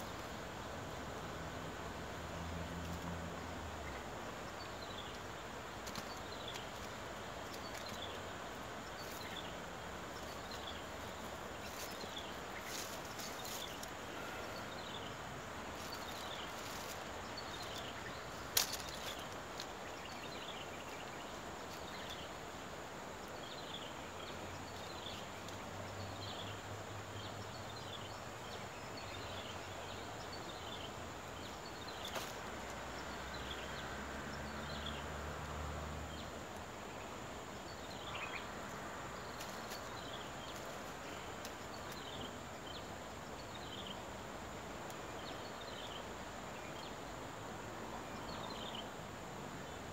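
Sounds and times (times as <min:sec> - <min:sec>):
outdoor background hiss: 0:00.0 - 0:49.9.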